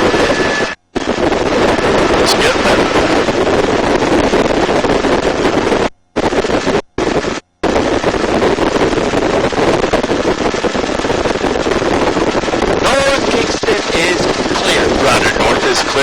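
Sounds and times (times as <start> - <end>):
helicopter engine and rotor noise: 0.0 - 16.0
wind: 0.0 - 16.0.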